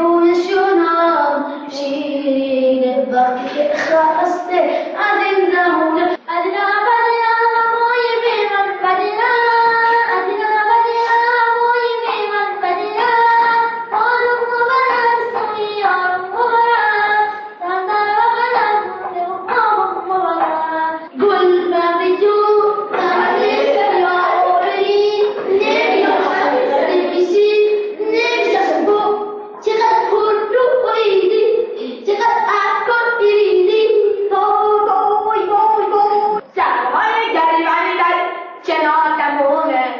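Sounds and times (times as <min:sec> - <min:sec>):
child singing: 0:00.0 - 0:39.9.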